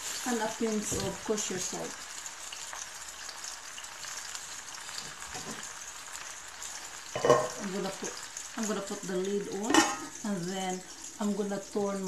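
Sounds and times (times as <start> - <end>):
potatoes frying in oil: 0.0 - 12.0.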